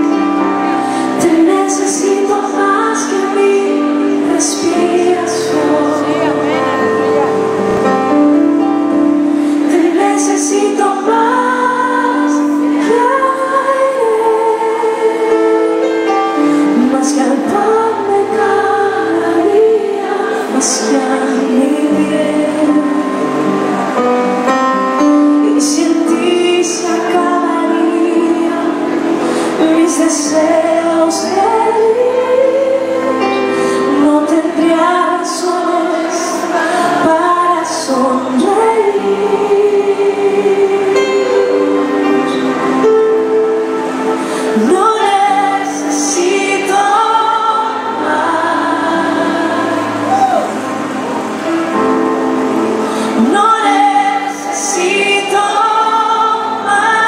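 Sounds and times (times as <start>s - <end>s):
woman singing: 0.0s - 7.6s, 8.9s - 23.8s, 25.0s - 51.2s, 51.8s - 57.0s.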